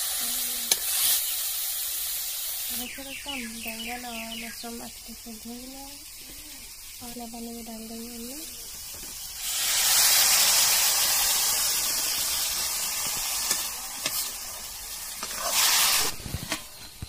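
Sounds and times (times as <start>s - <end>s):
loud sizzling in hot oil: 0.0s - 17.0s.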